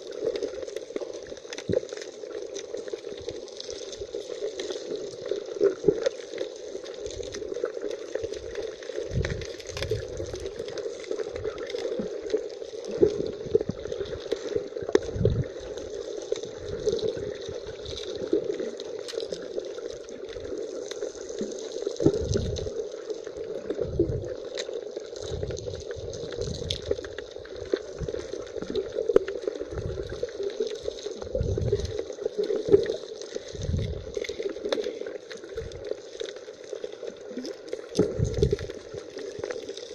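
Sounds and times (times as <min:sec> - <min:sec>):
underwater sea wash: 0:00.0 - 0:39.9.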